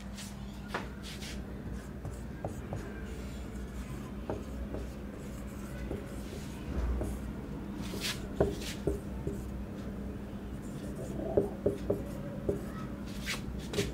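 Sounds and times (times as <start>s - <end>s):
marker scratching on whiteboard: 1.0s - 9.6s, 10.6s - 13.9s.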